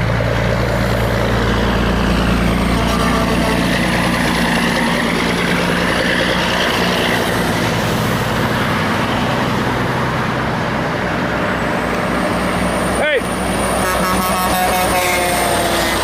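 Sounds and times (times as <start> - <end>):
heavy trucks driving past: 0.0 - 16.0.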